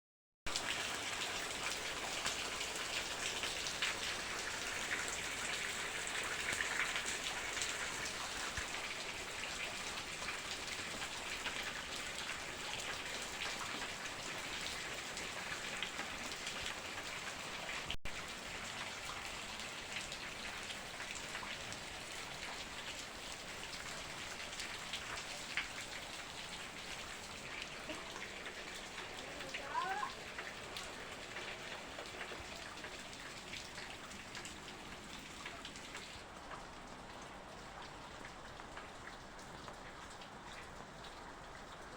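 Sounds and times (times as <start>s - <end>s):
steady rain falling: 0.5s - 41.9s.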